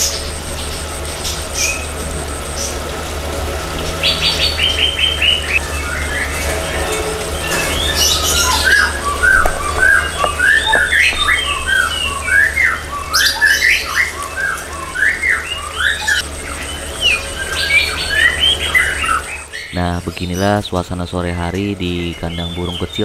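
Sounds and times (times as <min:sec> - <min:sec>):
songbirds chirping and calling: 0:00.0 - 0:23.0
steady low hum: 0:00.0 - 0:23.0.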